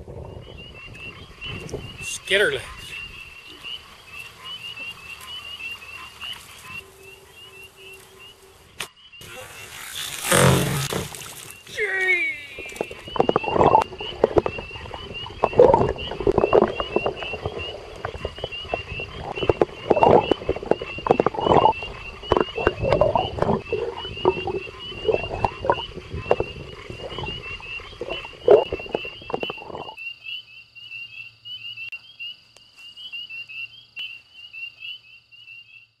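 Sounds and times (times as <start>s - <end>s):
frogs chirping: 0.0s - 36.0s
frogs croaking: 0.0s - 36.0s.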